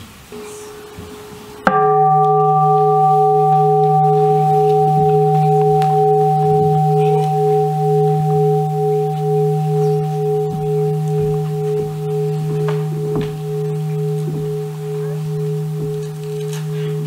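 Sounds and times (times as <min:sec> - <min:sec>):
bowl bell ringing: 0:00.3 - 0:17.0.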